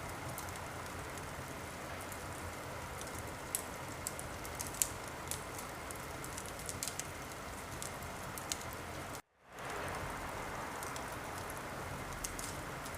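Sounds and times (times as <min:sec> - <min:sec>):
wood fire crackling: 0:00.0 - 0:12.9.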